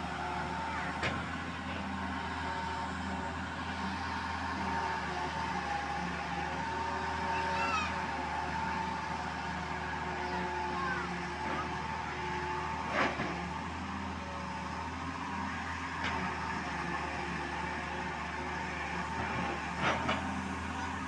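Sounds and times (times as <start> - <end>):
excavator engine and hydraulics: 0.0 - 21.0.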